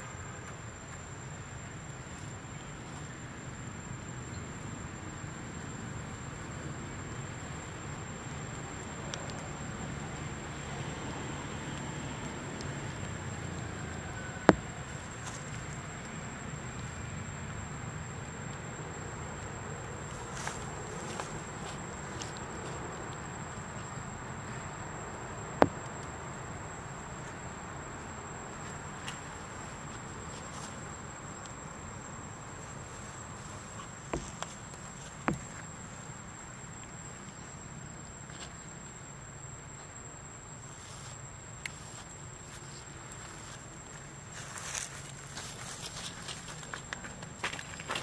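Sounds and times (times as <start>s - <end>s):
low outdoor hiss: 0.0s - 48.0s.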